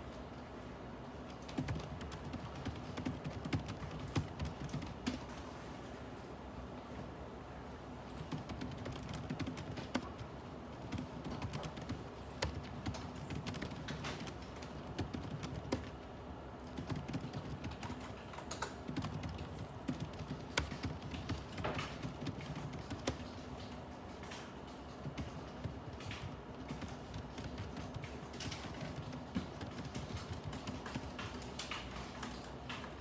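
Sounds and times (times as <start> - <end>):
computer keyboard typing: 1.3 - 5.3, 8.1 - 33.0.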